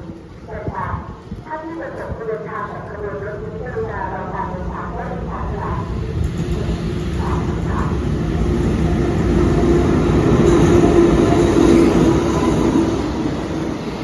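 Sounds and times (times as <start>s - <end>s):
train rumbling into station: 0.0s - 14.0s.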